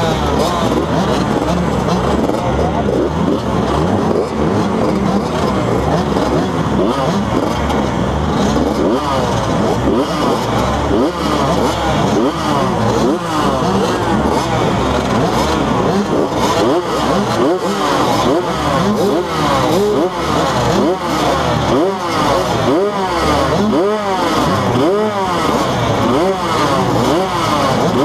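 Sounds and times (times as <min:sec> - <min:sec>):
motocross bikes revving: 0:00.0 - 0:28.0.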